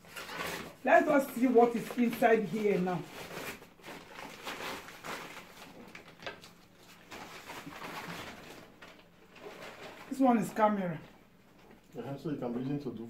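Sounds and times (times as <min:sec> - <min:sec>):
gift bag rustling and crinkling: 0:00.0 - 0:10.8.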